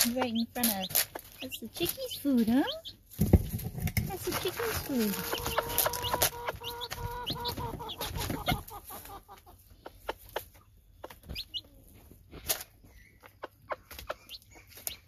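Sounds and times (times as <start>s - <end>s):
hen clucking: 0.0s - 3.2s, 4.1s - 15.0s
beaks pecking on plastic: 0.0s - 15.0s
chicks peeping: 0.0s - 15.0s.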